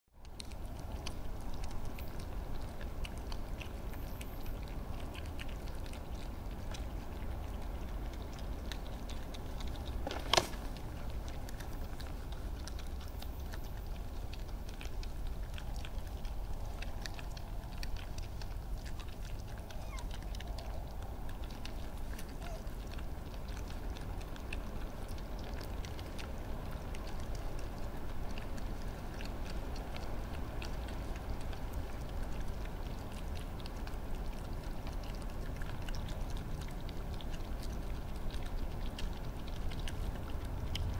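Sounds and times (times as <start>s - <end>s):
animals crunching food: 0.2s - 40.9s.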